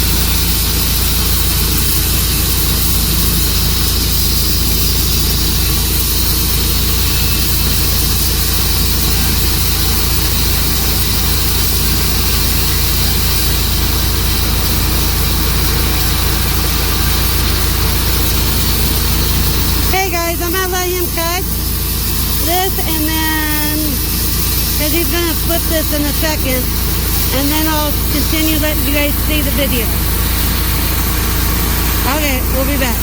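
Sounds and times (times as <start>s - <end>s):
saw hissing through log: 0.0s - 33.0s
sawmill engine running: 0.0s - 33.0s.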